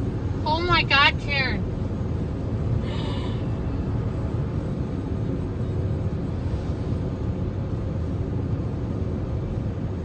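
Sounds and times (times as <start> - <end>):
steady low rumbling: 0.0 - 10.0.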